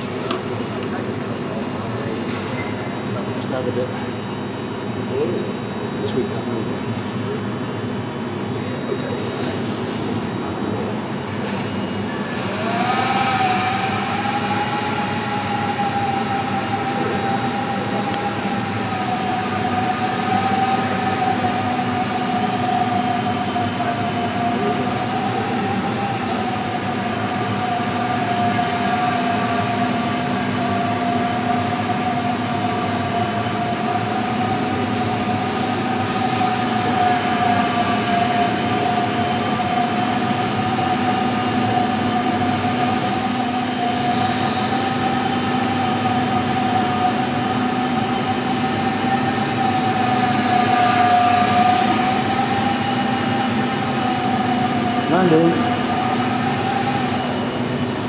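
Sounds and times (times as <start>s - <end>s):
model airplane motors whining: 10.6s - 58.0s.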